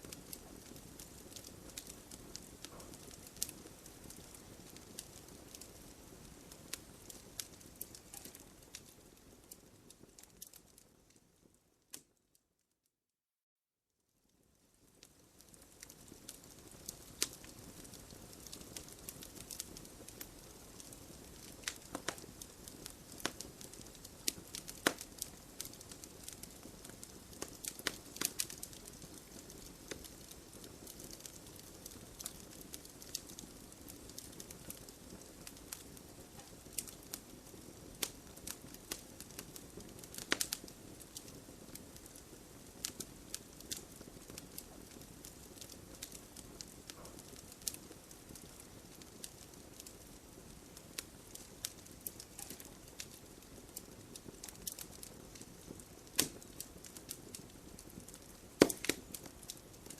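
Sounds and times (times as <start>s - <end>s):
fire crackling and popping: 0.0s - 12.2s, 14.3s - 59.9s.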